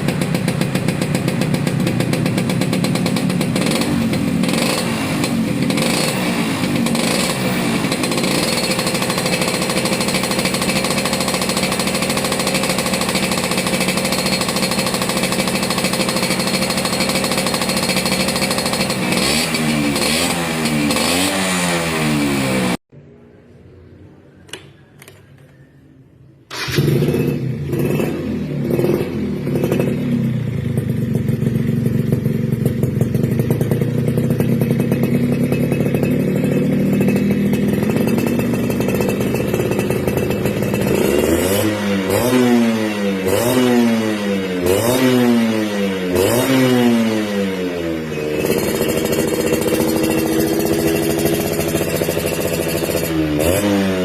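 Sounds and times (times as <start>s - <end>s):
two-stroke motorcycle engine revving: 0.0s - 22.8s, 26.5s - 54.0s.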